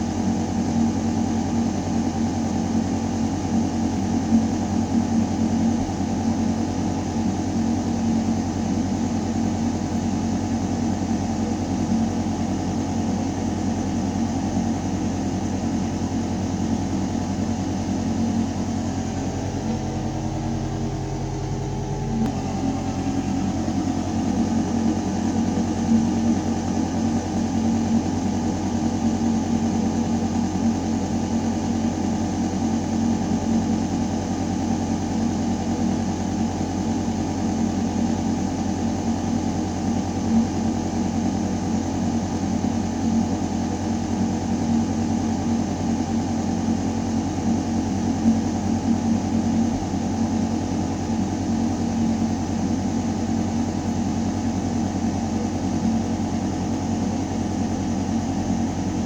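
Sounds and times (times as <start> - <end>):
ventilation system humming: 0.0 - 59.0.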